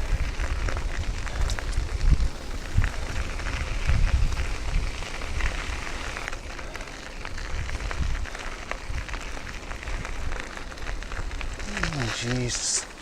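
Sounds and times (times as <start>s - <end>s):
wind rumble on microphone: 0.0s - 12.6s
bicycle tyres rolling on path: 0.0s - 13.0s.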